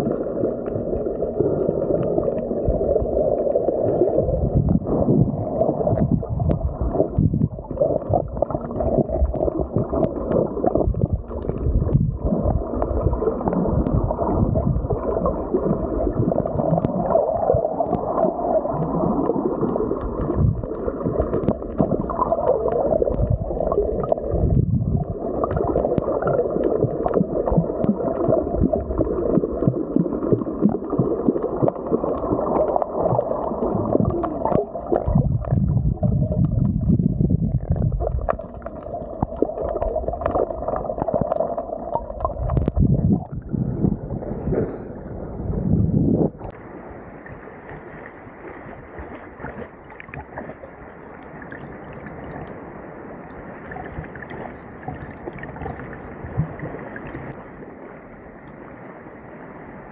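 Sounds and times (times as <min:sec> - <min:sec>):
crackling bubbles: 0:00.0 - 0:57.5
underwater churning and gurgling: 0:00.0 - 0:58.6.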